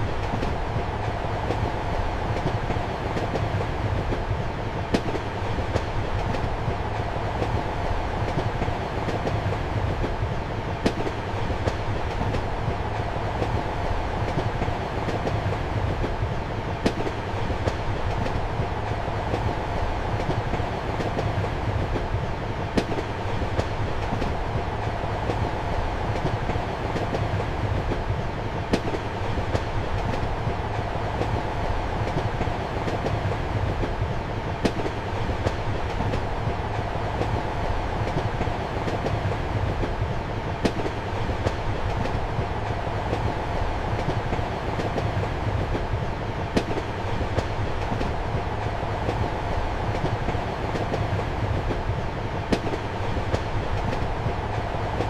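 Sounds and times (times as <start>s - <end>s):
train running rumble and rail hiss: 0.0s - 55.0s.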